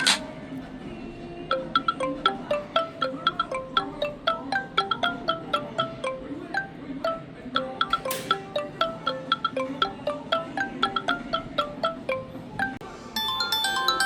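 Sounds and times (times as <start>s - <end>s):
phone ringtone: 1.5s - 14.0s.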